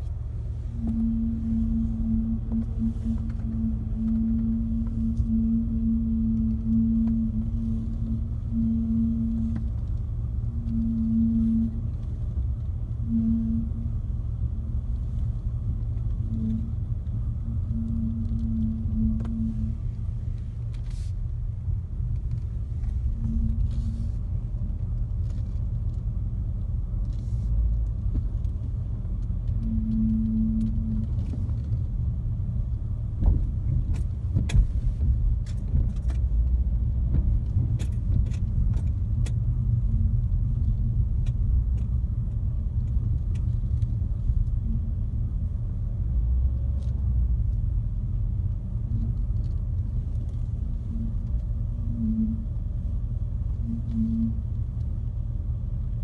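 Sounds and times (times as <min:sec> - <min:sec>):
car low rumble: 0:00.0 - 0:56.0
steering groan: 0:00.0 - 0:56.0.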